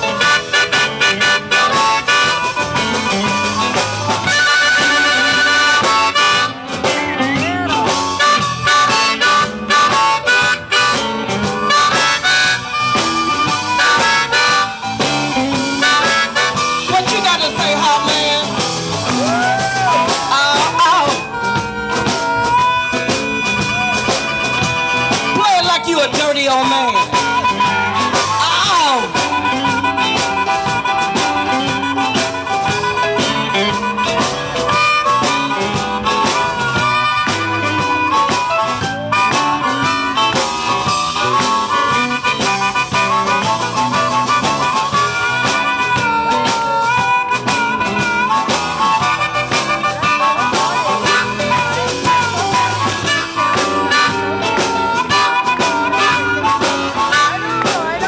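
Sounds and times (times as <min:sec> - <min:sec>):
blues band playing: 0:00.0 - 0:58.0
harmonica solo: 0:00.0 - 0:58.0.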